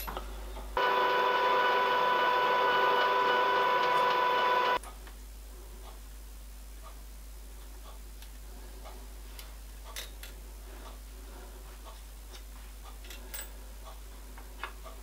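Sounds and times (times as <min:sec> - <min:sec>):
faint workshop hum: 0:00.0 - 0:15.0.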